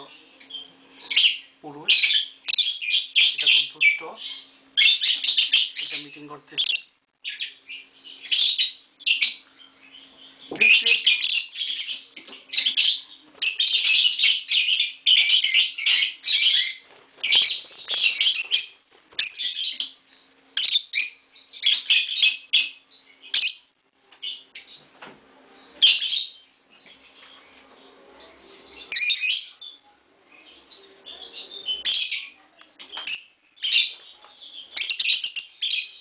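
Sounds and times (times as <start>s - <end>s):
lovebirds chirping: 0.0s - 36.0s.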